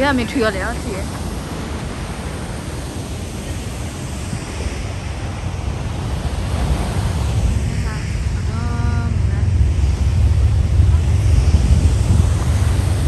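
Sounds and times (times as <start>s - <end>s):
surf breaking on rocky shore: 0.0s - 13.0s
wind rumbling on microphone: 0.0s - 13.0s.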